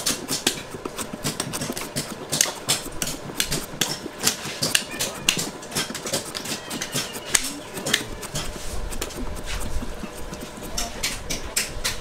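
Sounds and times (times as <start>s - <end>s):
knife scraping coconut husk: 0.0s - 12.0s.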